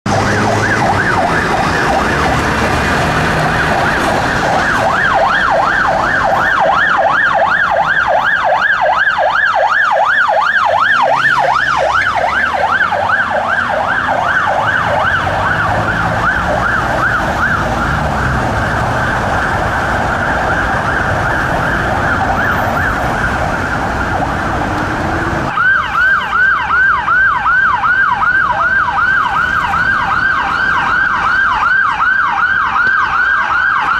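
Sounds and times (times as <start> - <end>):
ambulance siren: 0.0 - 33.9
police siren: 0.0 - 33.9
road traffic rumble: 0.0 - 33.9.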